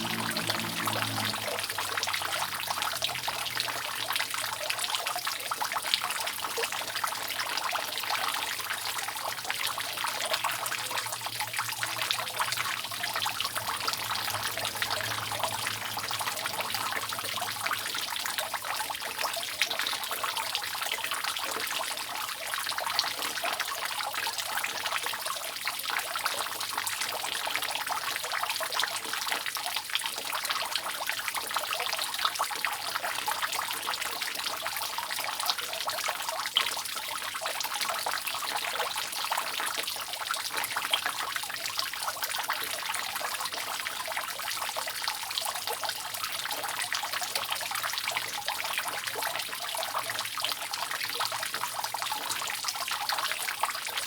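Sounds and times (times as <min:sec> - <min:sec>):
water dripping off a roof: 0:00.0 - 0:54.0.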